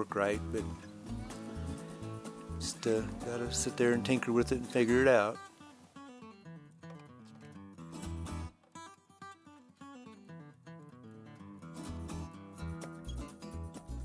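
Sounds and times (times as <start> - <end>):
plucked acoustic guitar music: 0.0 - 14.0.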